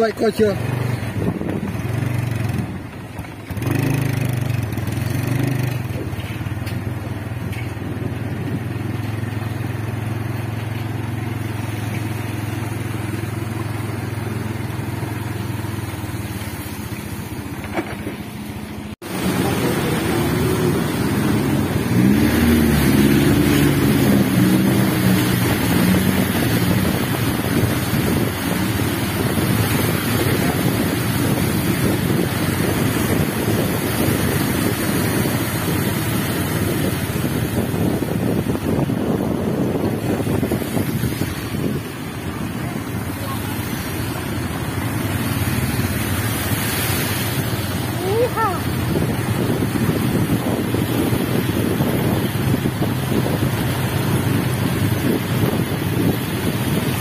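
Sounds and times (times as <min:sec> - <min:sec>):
motorcycle engine running: 0:00.0 - 0:57.0
rushing wind and water: 0:00.0 - 0:57.0.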